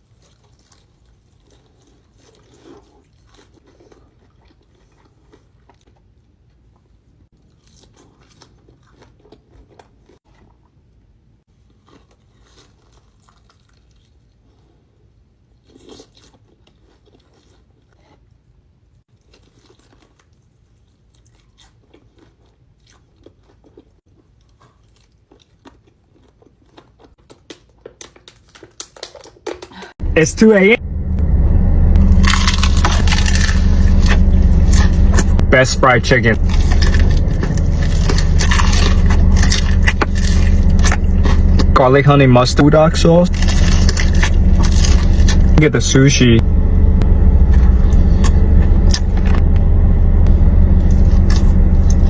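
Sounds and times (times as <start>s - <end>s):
person chewing crunchy food: 0.0s - 10.8s, 11.5s - 30.0s, 32.0s - 45.6s, 47.4s - 49.4s, 50.8s - 52.0s.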